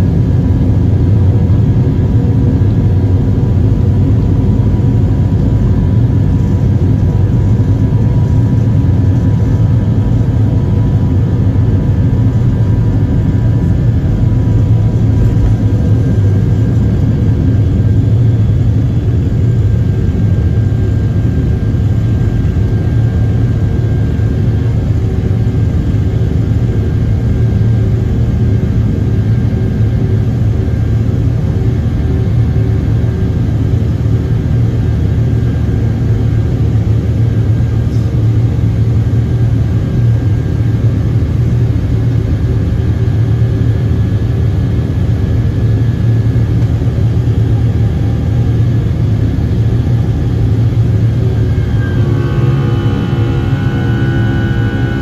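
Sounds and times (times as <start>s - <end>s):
airliner engines droning in cabin: 0.0s - 55.0s.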